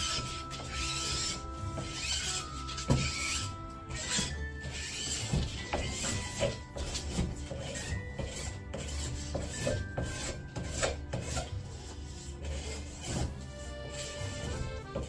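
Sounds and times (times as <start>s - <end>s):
background music: 0.0s - 15.0s
hand file rasping: 0.0s - 15.0s.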